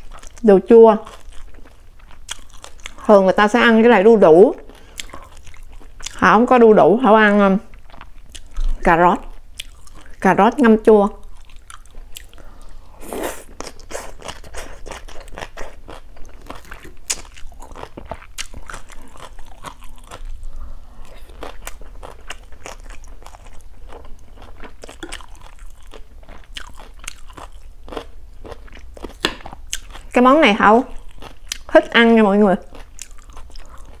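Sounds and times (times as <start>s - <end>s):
chewing crunches: 0.0s - 3.2s, 4.6s - 6.2s, 7.7s - 10.2s, 11.2s - 30.2s, 30.9s - 31.7s, 32.6s - 34.0s.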